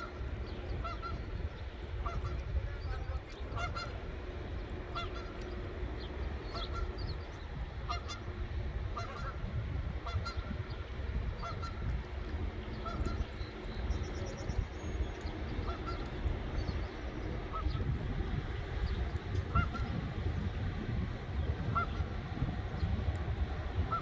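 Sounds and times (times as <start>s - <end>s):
geese honking: 0.0s - 12.0s, 12.6s - 20.5s, 21.5s - 22.9s, 23.8s - 24.0s
steady low rumble: 0.0s - 24.0s.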